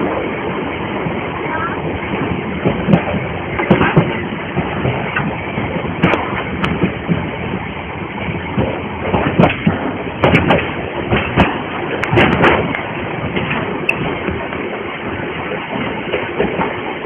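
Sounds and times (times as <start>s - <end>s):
railway carriages rumbling: 0.0s - 17.0s
knocks and clanks of wheels: 2.6s - 7.6s, 8.2s - 17.0s.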